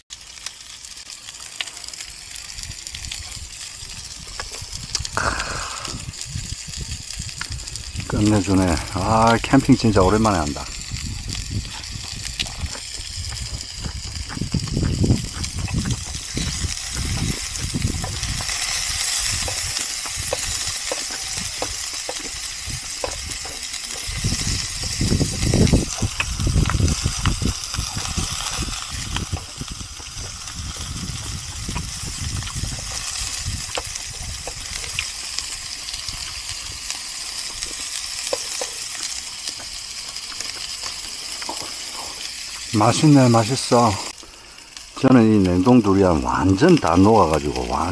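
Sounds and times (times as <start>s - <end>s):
food sizzling in a pan: 0.1s - 47.9s.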